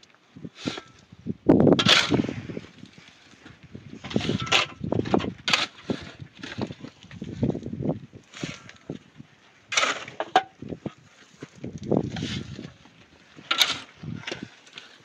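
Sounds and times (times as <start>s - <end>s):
gravelly dirt being flung: 0.0s - 15.0s
shovel scraping stony ground: 0.6s - 1.0s, 1.7s - 7.6s, 8.3s - 8.9s, 9.7s - 15.0s.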